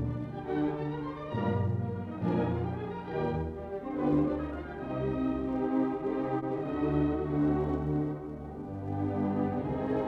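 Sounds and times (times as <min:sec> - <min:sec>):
orchestral music held notes: 0:00.0 - 0:10.0.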